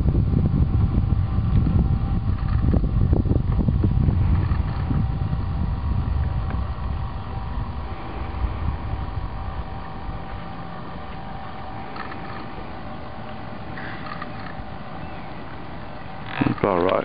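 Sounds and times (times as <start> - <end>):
boat motor humming: 0.0 - 17.0
wind rumbling on microphone: 0.0 - 17.0.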